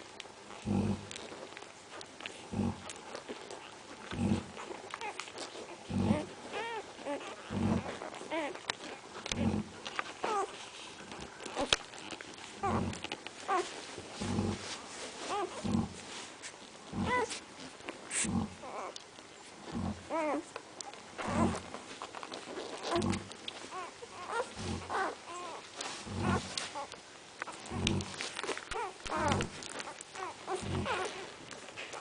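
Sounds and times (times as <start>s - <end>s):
puppies whining and yelping: 2.3s - 15.7s, 17.0s - 17.4s, 18.6s - 19.0s, 20.1s - 32.0s.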